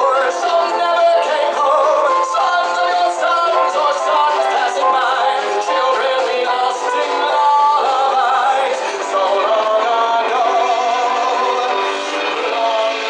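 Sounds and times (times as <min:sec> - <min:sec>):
bass: 0:00.0 - 0:13.0
drums: 0:00.0 - 0:13.0
man singing with vibrato: 0:00.0 - 0:13.0
piano: 0:00.0 - 0:13.0.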